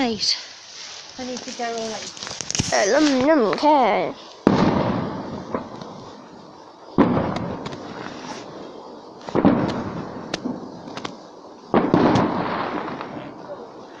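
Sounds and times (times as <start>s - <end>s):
fireworks bangs with crackling: 0.0s - 14.0s.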